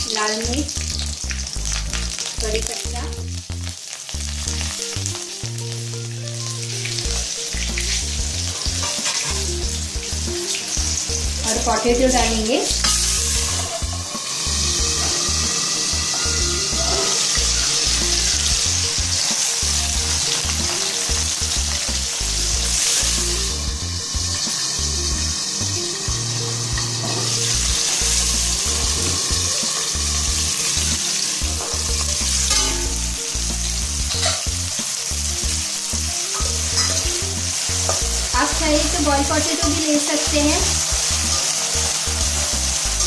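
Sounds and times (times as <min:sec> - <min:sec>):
potato sizzling in hot oil: 0:00.0 - 0:43.0.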